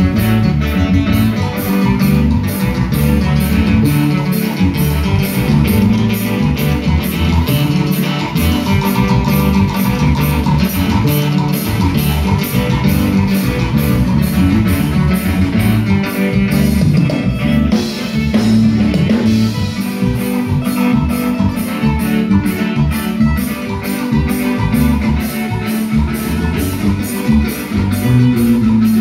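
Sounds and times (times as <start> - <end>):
bass: 0.0 - 29.0
guitar: 0.0 - 29.0
steady beat: 0.0 - 29.0.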